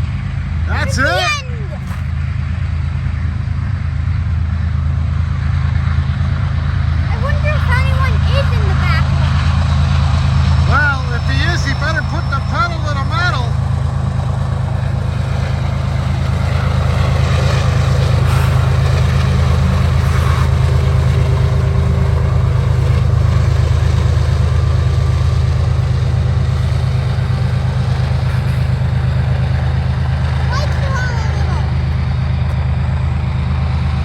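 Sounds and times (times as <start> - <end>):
diesel locomotive engine drone: 0.0 - 34.0
freight train passing: 0.0 - 34.0.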